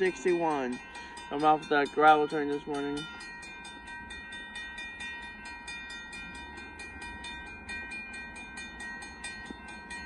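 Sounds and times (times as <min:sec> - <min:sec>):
crossing warning bell ringing: 0:00.0 - 0:10.0.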